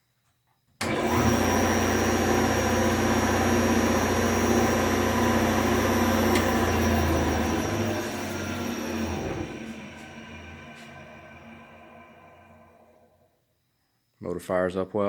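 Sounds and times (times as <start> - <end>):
wood shaper motor humming: 0.8 - 13.0
high whine: 0.8 - 13.2.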